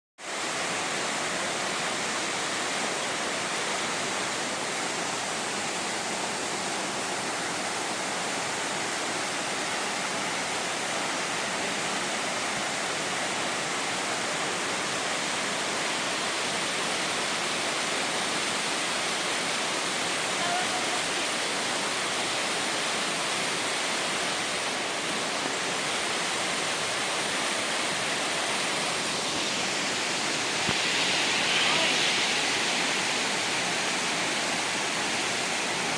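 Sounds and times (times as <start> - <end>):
waterfall rushing: 0.2 - 35.9.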